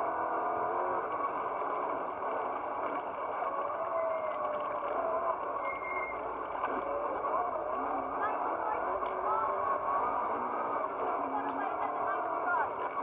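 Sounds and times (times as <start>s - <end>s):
rally car engine under load: 0.0s - 13.0s.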